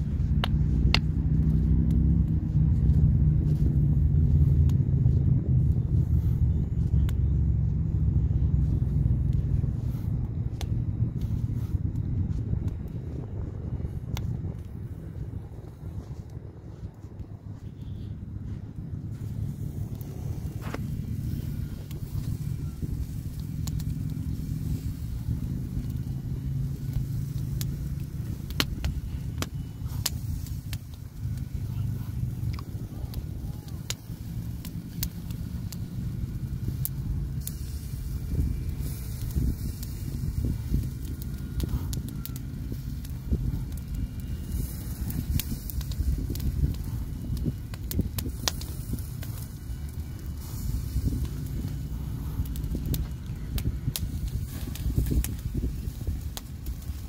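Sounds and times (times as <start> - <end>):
sharp fire pops: 0.0 - 18.1, 18.8 - 57.0
steady low rumble: 0.0 - 57.0
wood fire crackling: 0.0 - 57.0.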